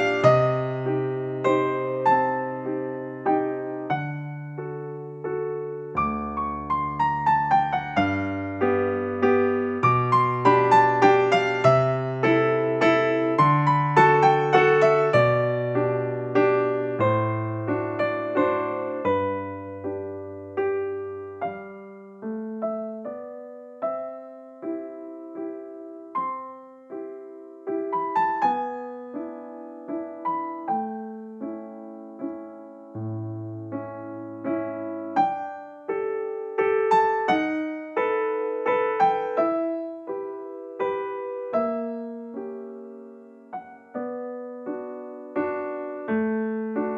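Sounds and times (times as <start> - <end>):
slow gentle solo piano melody: 0.0 - 46.9.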